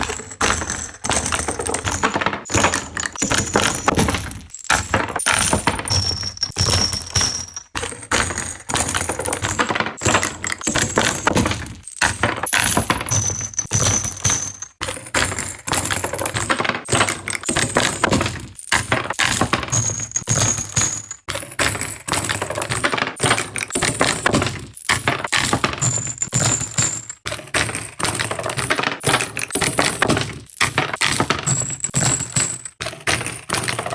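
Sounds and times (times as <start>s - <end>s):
metal cartridges clattering: 0.0s - 33.9s.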